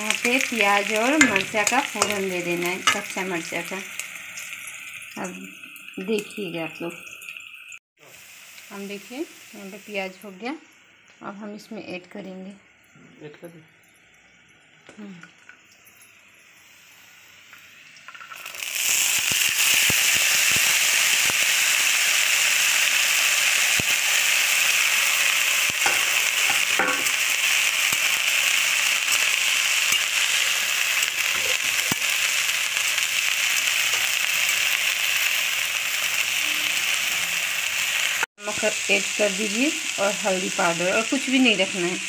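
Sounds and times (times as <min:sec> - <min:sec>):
greens sizzling in hot oil: 0:00.0 - 0:13.3, 0:16.3 - 0:42.0.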